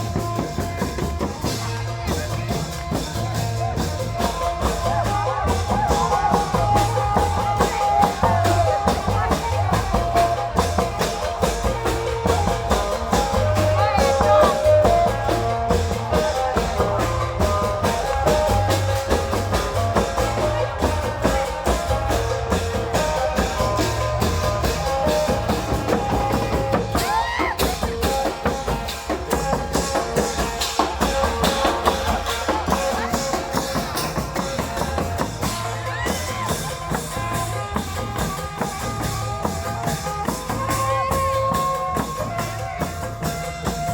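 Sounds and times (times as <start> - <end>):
long-drum ensemble playing: 0.0 - 43.9
pulsing low drum: 0.0 - 43.9.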